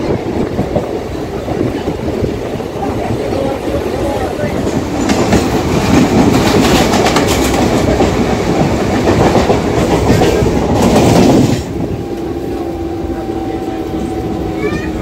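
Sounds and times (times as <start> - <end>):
train coaches rushing past: 0.0 - 15.0
train running steadily: 0.0 - 15.0.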